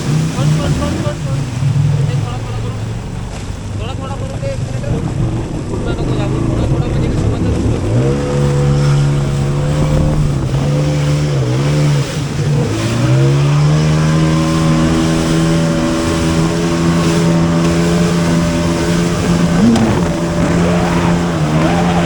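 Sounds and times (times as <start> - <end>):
jet ski engine at high revs: 0.0 - 22.0.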